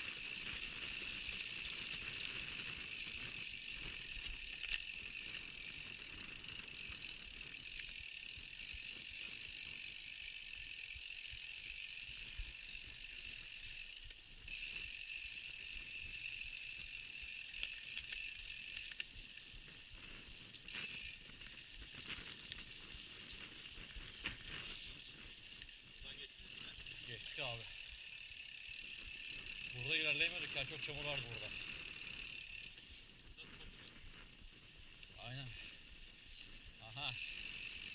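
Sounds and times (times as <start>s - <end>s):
bike freehub ticking: 0.0s - 25.7s, 26.4s - 35.4s, 36.4s - 37.9s.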